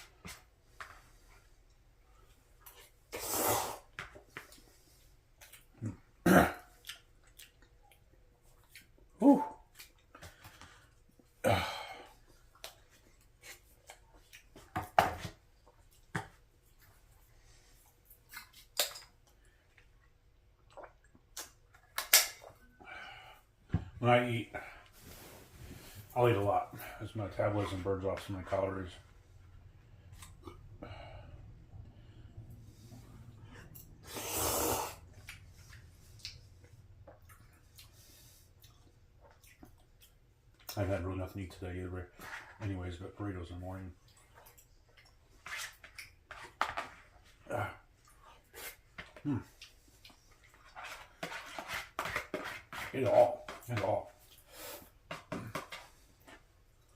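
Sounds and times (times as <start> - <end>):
faint eating noises: 0.0 - 56.9.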